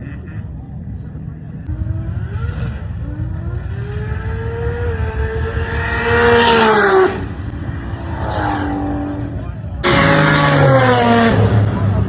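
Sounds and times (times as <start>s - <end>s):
car engine revving: 1.6s - 12.0s.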